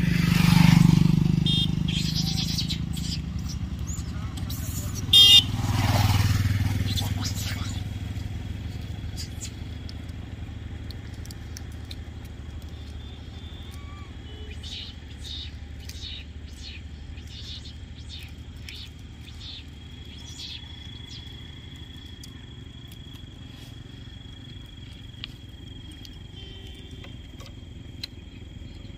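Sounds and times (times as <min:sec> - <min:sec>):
engine rumble: 0:00.0 - 0:28.9.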